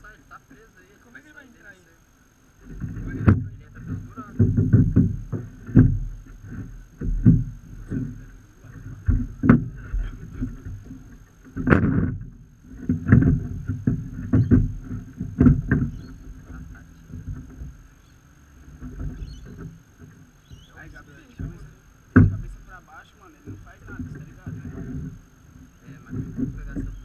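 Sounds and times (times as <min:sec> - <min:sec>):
knocks on wooden dock boards: 0:02.6 - 0:17.8, 0:18.7 - 0:27.0.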